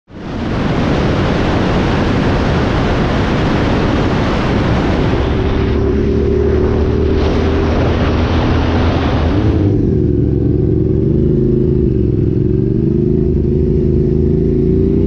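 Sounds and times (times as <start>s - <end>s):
wind rushing over microphone: 0.1s - 15.0s
motorcycle engine: 1.5s - 15.0s.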